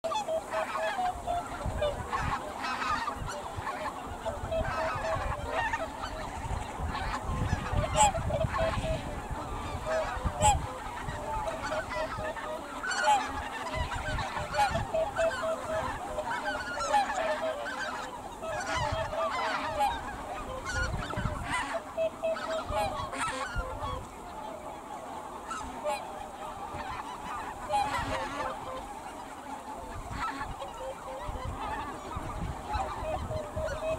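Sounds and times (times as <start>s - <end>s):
geese honking: 0.0s - 33.9s.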